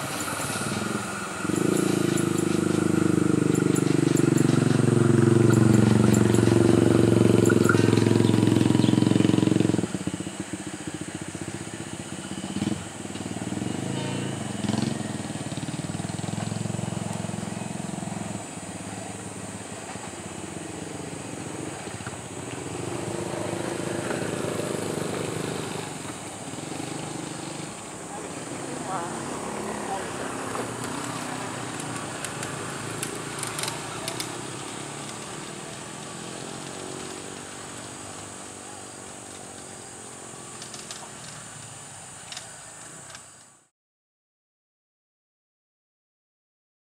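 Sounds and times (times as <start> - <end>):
vehicle passing by: 0.0 - 43.3
outdoor background noise: 0.0 - 43.7.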